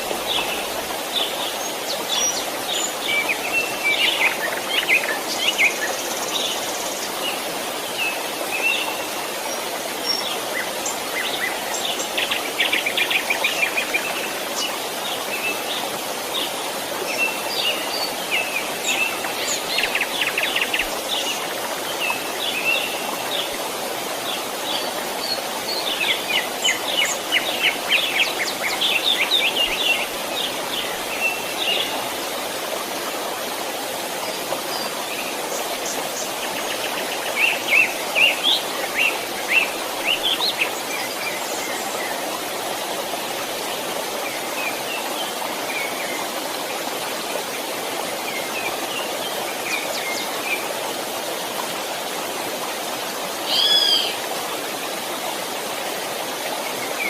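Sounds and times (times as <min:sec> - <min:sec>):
small stream rushing: 0:00.0 - 0:57.0.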